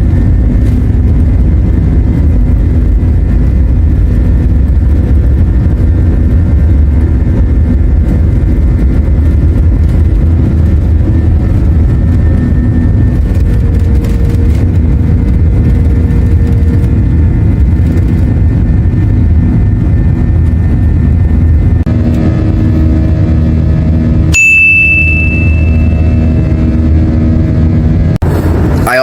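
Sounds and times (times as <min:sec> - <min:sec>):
jet cabin roar: 0:00.0 - 0:29.0.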